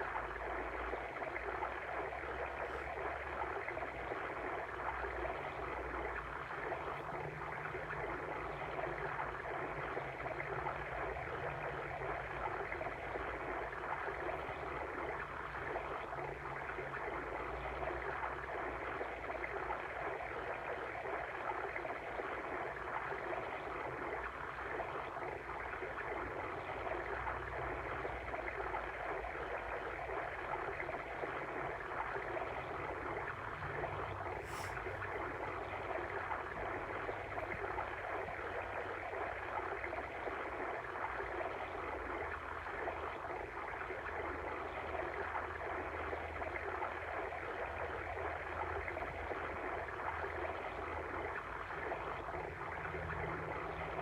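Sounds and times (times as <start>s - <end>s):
water stream babbling: 0.0s - 54.0s.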